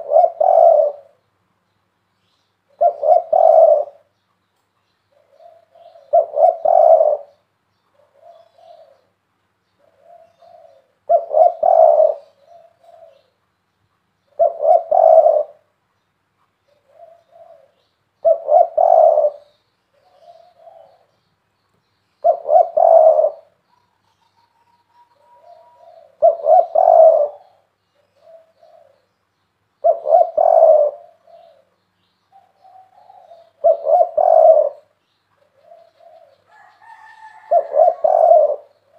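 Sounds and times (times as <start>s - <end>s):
dove cooing: 0.0s - 1.2s, 2.7s - 4.1s, 5.1s - 9.2s, 9.8s - 13.4s, 14.2s - 15.7s, 16.7s - 21.2s, 22.2s - 29.1s, 29.8s - 38.9s.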